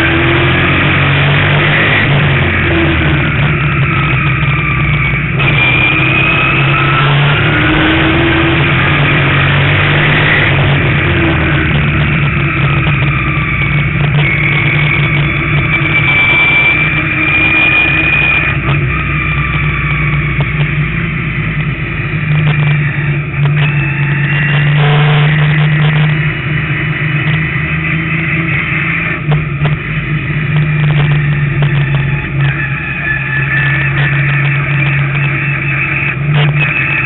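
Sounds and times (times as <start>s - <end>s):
race car engine running hard: 0.0s - 37.0s.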